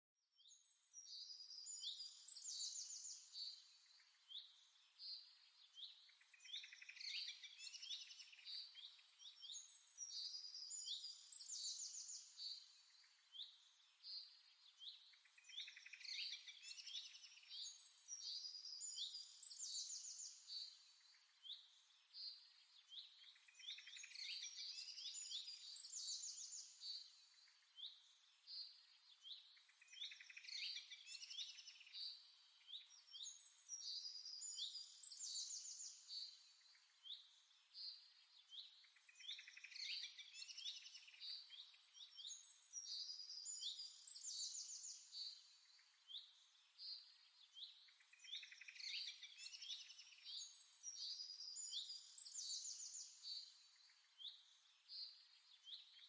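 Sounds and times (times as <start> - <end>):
small birds chirping and trilling: 0.4 - 56.0.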